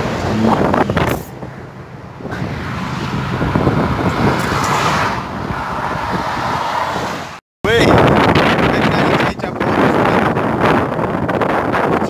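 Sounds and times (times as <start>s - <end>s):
motorway traffic noise: 0.0s - 12.0s.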